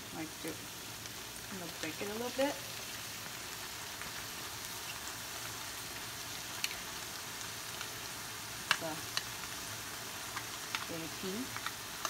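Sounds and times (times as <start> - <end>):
sauce sizzling in a pan: 0.0 - 12.0.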